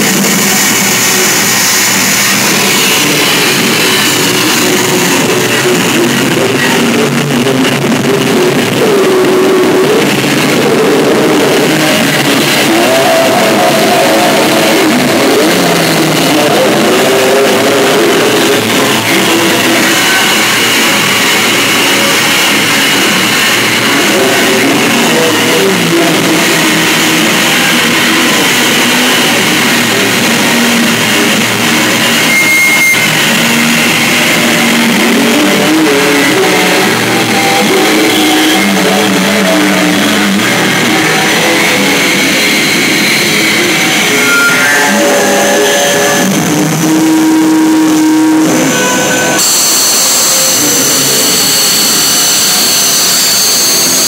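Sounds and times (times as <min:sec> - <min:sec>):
distorted electric guitar: 0:00.0 - 0:54.0
guitar feedback tones: 0:00.0 - 0:54.0
high steady whines: 0:00.0 - 0:54.0.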